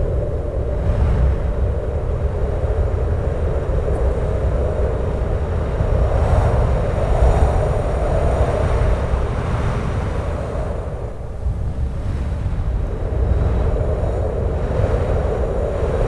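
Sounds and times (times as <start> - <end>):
strong wind blowing: 0.0 - 16.0.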